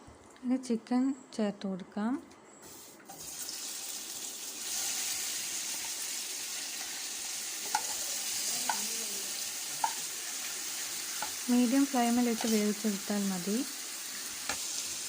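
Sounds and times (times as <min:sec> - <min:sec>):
chicken sizzling in oil: 0:02.8 - 0:15.0.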